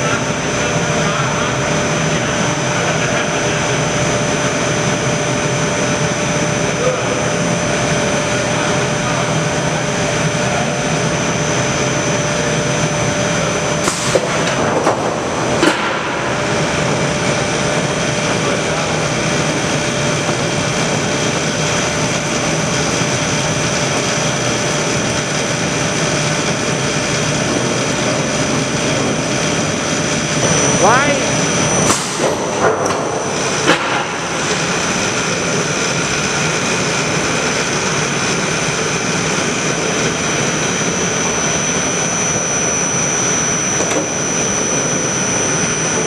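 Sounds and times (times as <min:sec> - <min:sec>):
conveyor and machine noise: 0:00.0 - 0:46.0
faint steady whine: 0:00.0 - 0:46.0.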